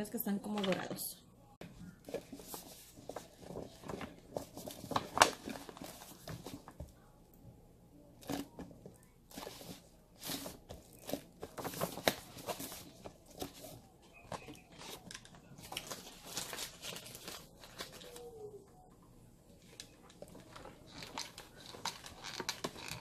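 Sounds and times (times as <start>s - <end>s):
paper rustling and crinkling: 1.6s - 7.0s, 8.2s - 18.6s, 19.6s - 23.0s.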